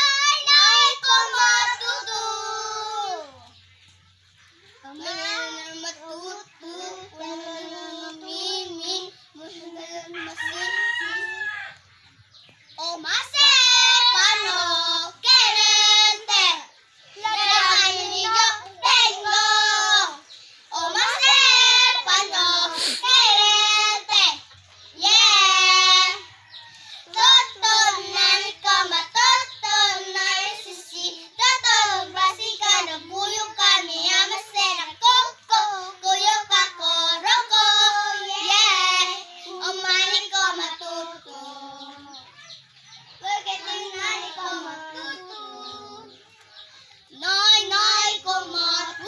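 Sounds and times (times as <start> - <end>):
children singing: 0.0 - 3.6, 4.7 - 11.6, 12.8 - 49.0.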